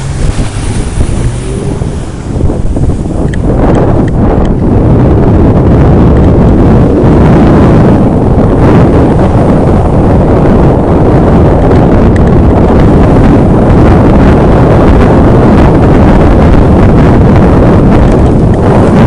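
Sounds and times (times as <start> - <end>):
off-road vehicle rumble: 0.0 - 19.0
wind buffeting microphone: 0.0 - 19.0.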